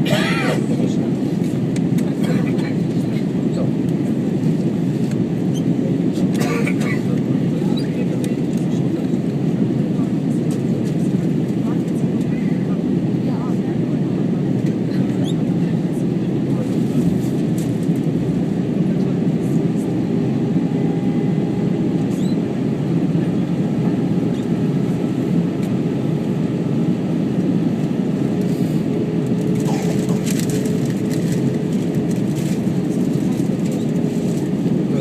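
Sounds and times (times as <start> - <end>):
airplane cabin roar: 0.0 - 35.0.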